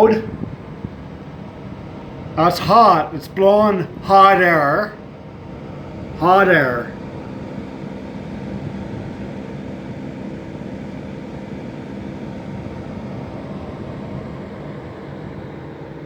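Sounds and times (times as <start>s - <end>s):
heat unit fan blowing: 0.0s - 16.0s.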